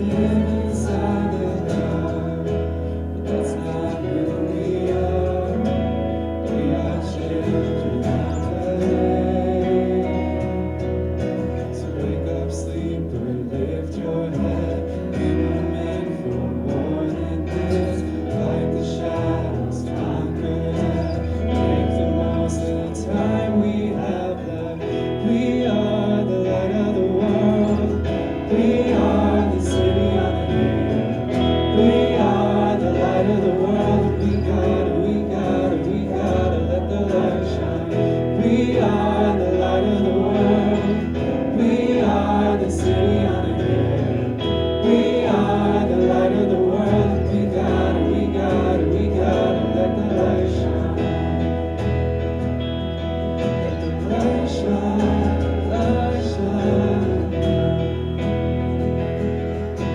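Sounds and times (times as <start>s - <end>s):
band playing worship song: 0.0s - 59.9s
crowd singing along: 0.0s - 59.9s.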